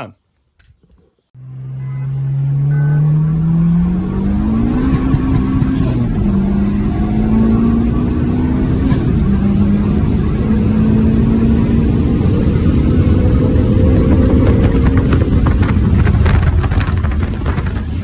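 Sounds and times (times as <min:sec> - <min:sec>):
car engine accelerating: 0:01.4 - 0:18.0.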